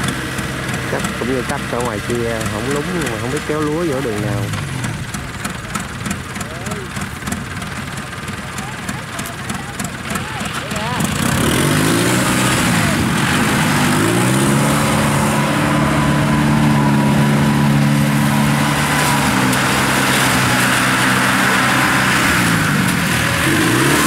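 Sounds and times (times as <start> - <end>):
harvester engine revving: 0.0 - 24.0.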